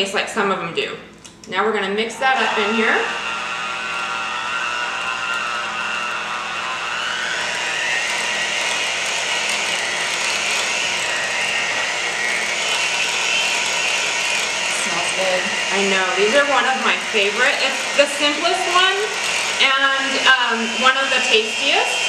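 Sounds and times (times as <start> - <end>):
electric hand mixer whining: 1.9 - 22.0.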